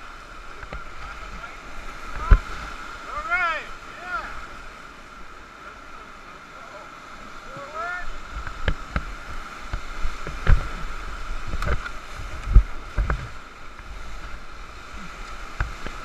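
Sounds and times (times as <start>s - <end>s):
paddle strokes in water: 0.0s - 16.0s
waves thumping against raft: 0.0s - 16.0s
whitewater rushing: 0.0s - 16.0s.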